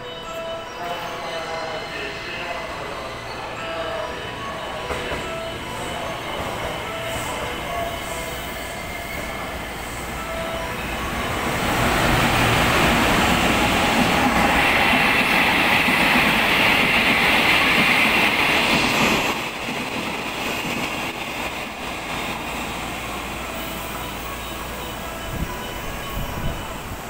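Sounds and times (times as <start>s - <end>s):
train wheels rumbling on rails: 4.4s - 27.0s.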